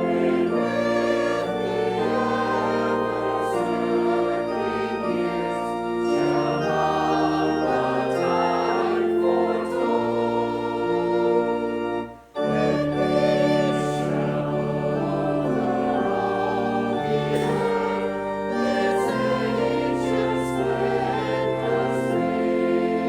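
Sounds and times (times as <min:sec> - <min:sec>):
choir singing: 0:00.0 - 0:23.0
organ chords: 0:00.0 - 0:23.0.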